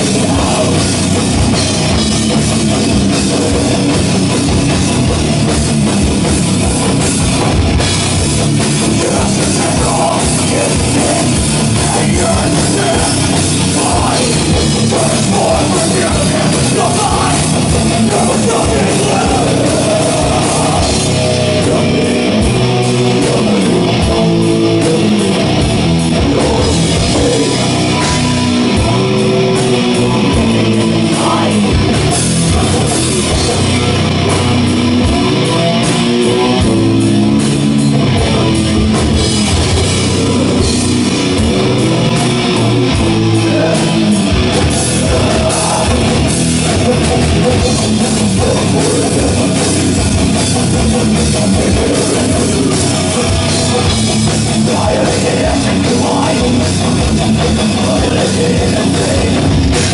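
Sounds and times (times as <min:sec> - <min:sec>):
bass guitar: 0:00.0 - 0:59.9
distorted electric guitar: 0:00.0 - 0:59.9.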